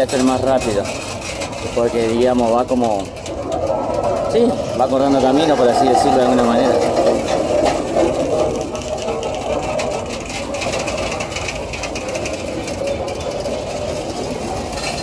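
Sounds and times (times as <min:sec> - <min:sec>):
freight cars rattling and clicking: 0:00.0 - 0:15.0
steel wheels rumbling on rails: 0:00.0 - 0:15.0.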